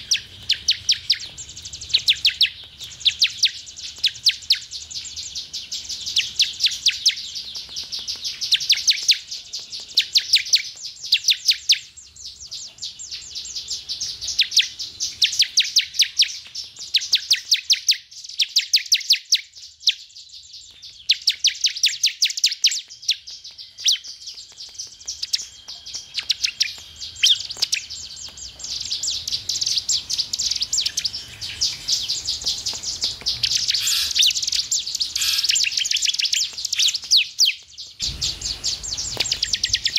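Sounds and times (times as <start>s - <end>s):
bird singing sharp chip notes: 0.0s - 39.9s.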